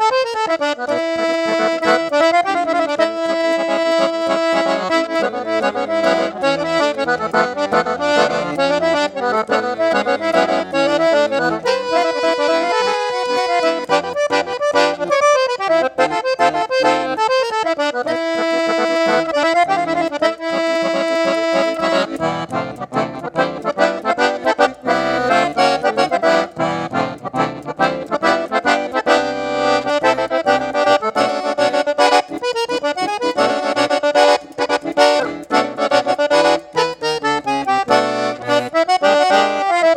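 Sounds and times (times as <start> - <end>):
accordion playing: 0.0 - 39.9.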